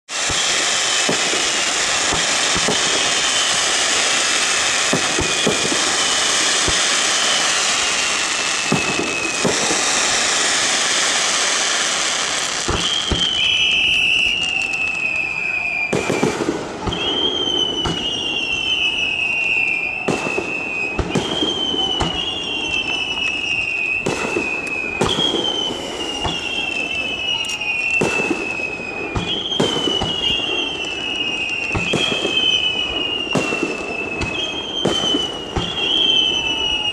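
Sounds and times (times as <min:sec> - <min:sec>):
fireworks bangs: 0:00.1 - 0:36.9
fireworks crackling: 0:00.1 - 0:36.9
falling whistling tone: 0:02.5 - 0:36.9.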